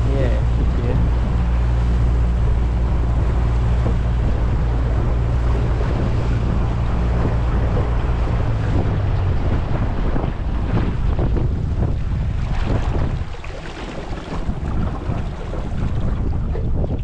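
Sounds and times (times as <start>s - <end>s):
outboard motor humming: 0.0s - 17.0s
water churning past hull: 0.0s - 17.0s
wind rushing over microphone: 0.0s - 17.0s.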